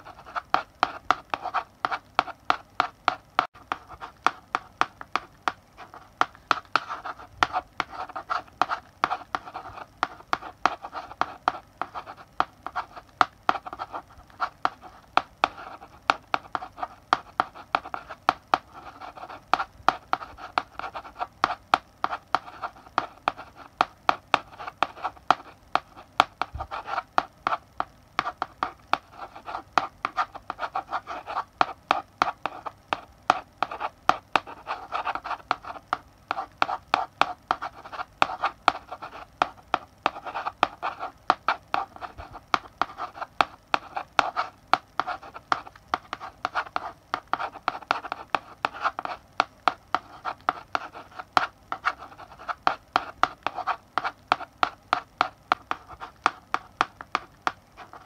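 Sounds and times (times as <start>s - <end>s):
chalk scratching on blackboard: 0.0s - 58.0s
chalk tapping on blackboard: 0.0s - 58.0s.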